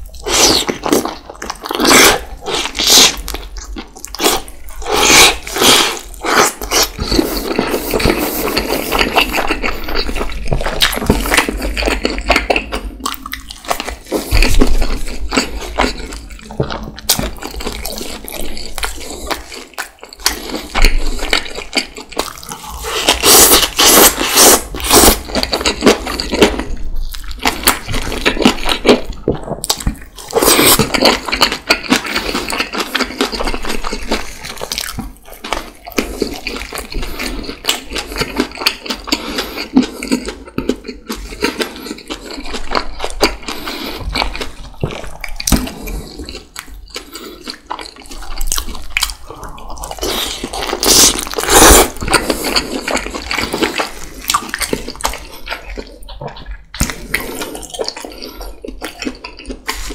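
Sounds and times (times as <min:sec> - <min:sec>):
wet chewing and mouth sounds: 0:00.0 - 0:59.9.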